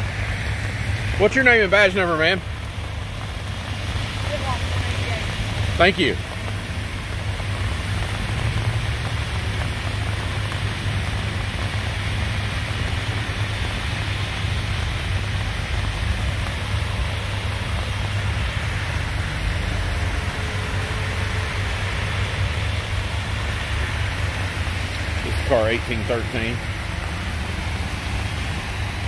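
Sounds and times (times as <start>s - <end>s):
rain: 0.0s - 29.0s
traffic on flooded street: 0.0s - 29.0s.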